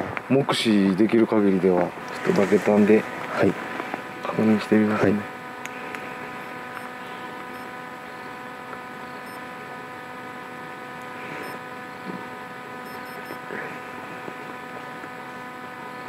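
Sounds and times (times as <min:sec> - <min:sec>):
steady electronic hum: 0:00.0 - 0:16.0
faint movement sounds: 0:00.8 - 0:15.6.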